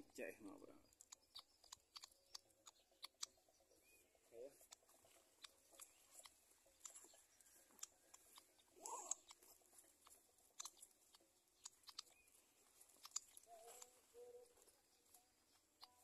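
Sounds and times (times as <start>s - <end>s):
faint clicks and ticks: 0.0s - 16.0s.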